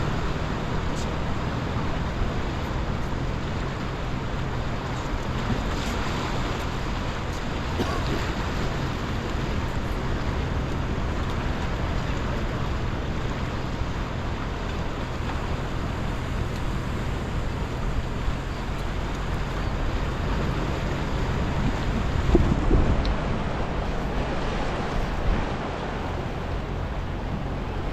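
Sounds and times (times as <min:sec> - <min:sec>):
low engine drone: 0:00.0 - 0:27.9
ocean surf: 0:00.0 - 0:27.9
wind buffeting microphone: 0:00.0 - 0:27.9.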